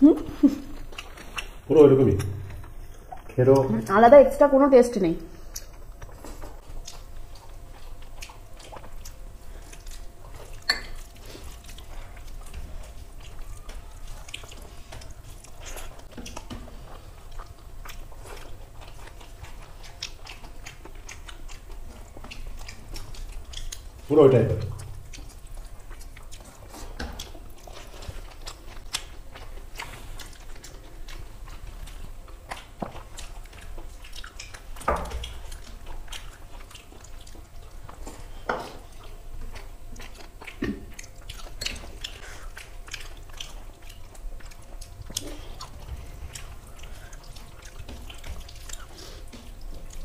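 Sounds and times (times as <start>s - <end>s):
chewing and lip-smacking: 0.0s - 3.9s, 5.3s - 50.0s.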